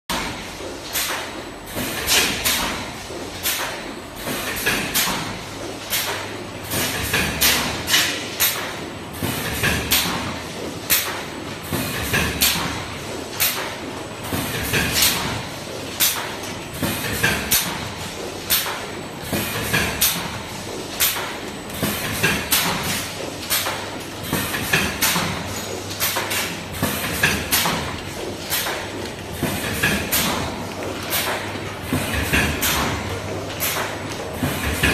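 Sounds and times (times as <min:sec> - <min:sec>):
packing machine clacking: 0:00.1 - 0:34.9.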